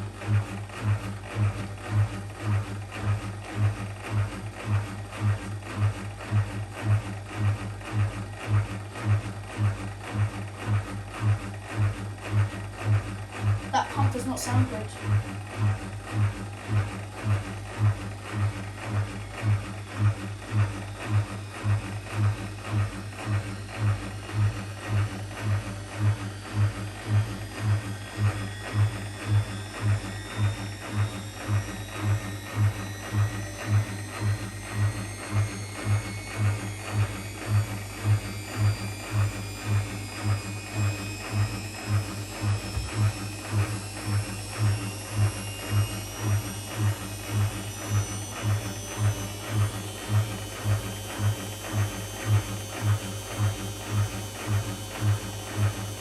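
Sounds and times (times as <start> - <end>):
washing machine drain pump humming: 0.0 - 56.0.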